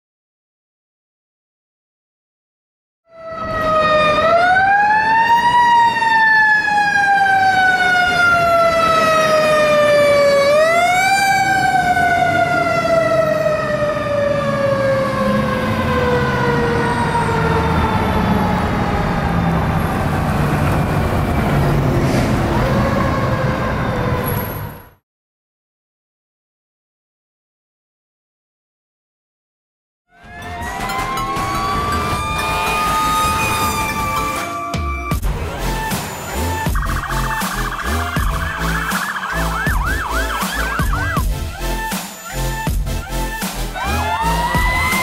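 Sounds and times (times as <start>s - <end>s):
fire engine siren: 3.0s - 25.0s, 30.1s - 45.0s
truck engine noise: 3.3s - 25.0s, 30.2s - 44.8s.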